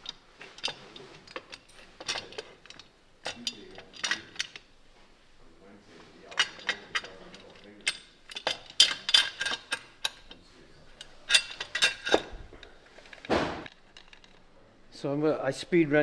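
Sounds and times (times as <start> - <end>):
wrench clinking on metal bolts: 0.0 - 4.8, 6.2 - 14.5.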